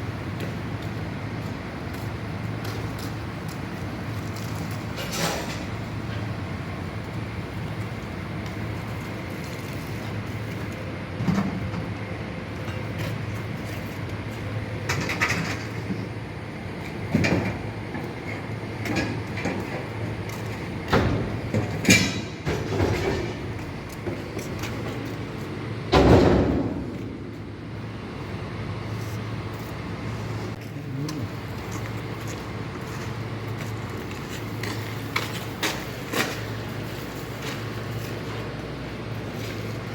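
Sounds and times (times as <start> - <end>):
diesel machinery humming: 0.0 - 39.9.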